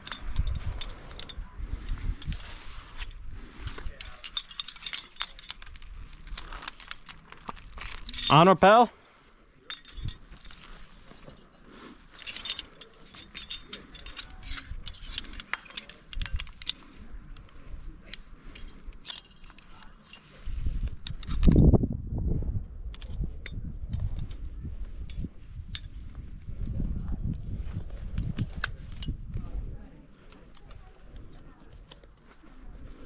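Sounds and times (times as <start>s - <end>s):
metal climbing gear clinking: 0.0s - 21.8s, 22.9s - 33.0s.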